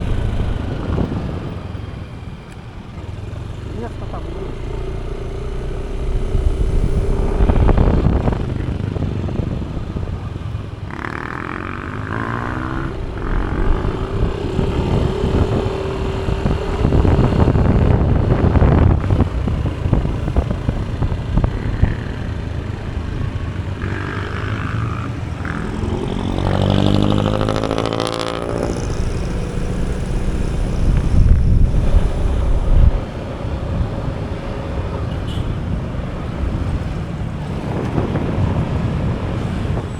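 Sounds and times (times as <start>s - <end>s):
wind on microphone: 0.0s - 2.4s, 4.8s - 39.9s
motorcycle engine: 0.0s - 39.9s.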